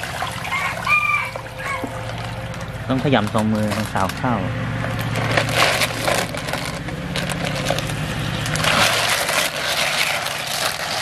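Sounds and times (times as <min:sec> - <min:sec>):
water sloshing in basin: 0:00.0 - 0:04.0, 0:05.2 - 0:11.0
steady low hum: 0:00.0 - 0:11.0.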